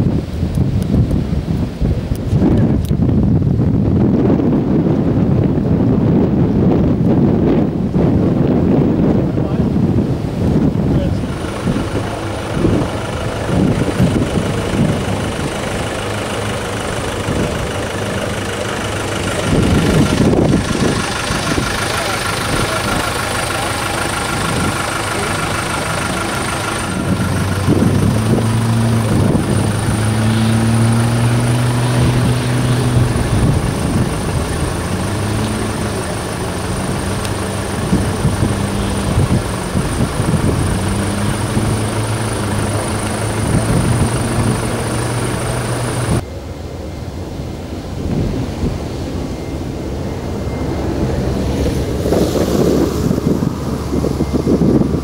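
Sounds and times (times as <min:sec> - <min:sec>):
tracked vehicle engine drone: 0:00.0 - 0:55.0
lighter vehicle engine idling: 0:00.1 - 0:55.0.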